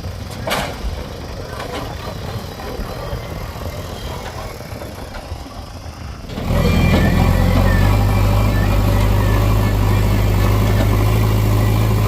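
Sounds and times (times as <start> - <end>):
heavy diesel engine humming: 0.0 - 12.0.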